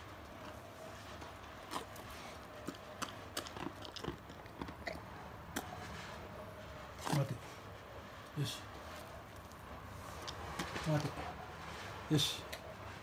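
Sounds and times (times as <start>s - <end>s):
dog chewing with crunches: 0.0s - 7.7s, 8.8s - 13.0s.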